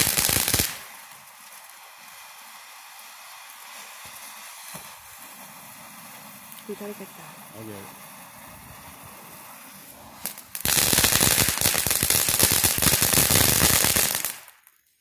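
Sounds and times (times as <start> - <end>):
firework fountain hissing: 0.0 - 14.9
firework crackling pops: 0.0 - 15.0.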